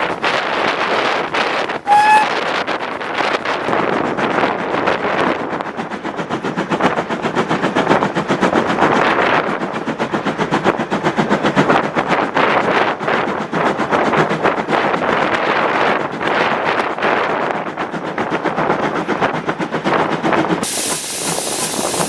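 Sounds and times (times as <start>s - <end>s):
steam locomotive exhaust beats: 0.0s - 22.0s.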